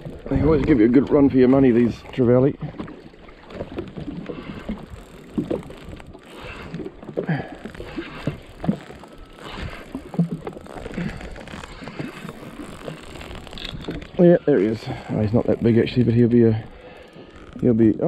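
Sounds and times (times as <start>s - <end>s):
waves slapping against hull: 0.0s - 18.0s.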